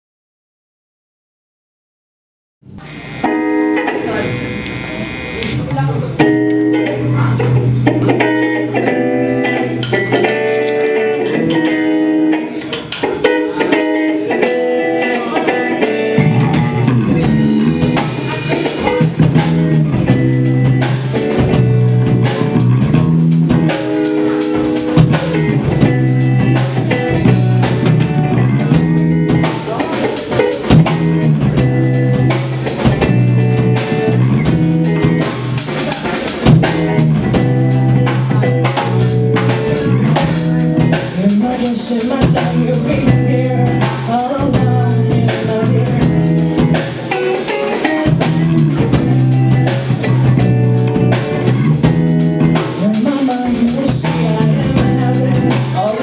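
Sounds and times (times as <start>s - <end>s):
bass guitar: 2.6s - 56.0s
drums: 2.6s - 56.0s
electric guitar playing: 2.6s - 56.0s.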